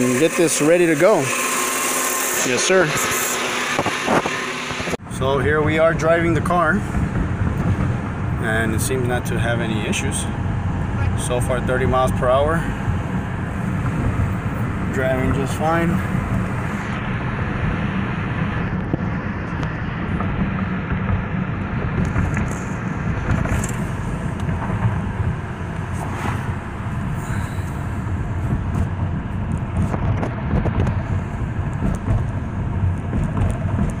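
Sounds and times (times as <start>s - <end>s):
car engine running: 0.0s - 34.0s
road noise inside car: 0.0s - 34.0s.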